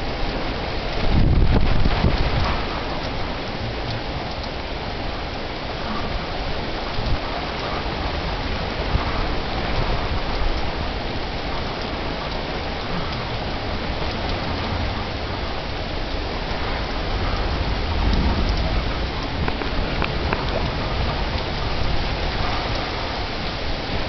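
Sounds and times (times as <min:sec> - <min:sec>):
heavy rain pouring: 0:00.0 - 0:24.0
rain drop ticks: 0:00.0 - 0:24.0.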